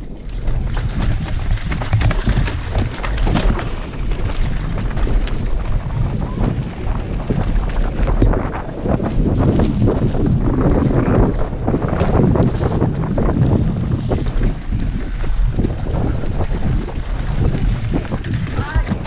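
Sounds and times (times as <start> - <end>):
bike knocking and rattling: 0.0 - 19.0
wind buffeting microphone: 0.0 - 19.0.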